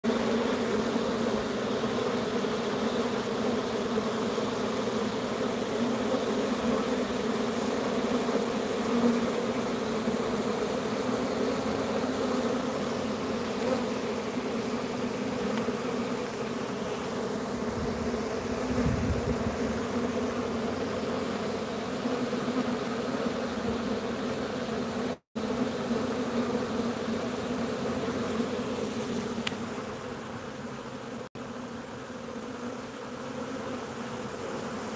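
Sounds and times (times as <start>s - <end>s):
bee swarm buzzing: 0.0s - 34.9s.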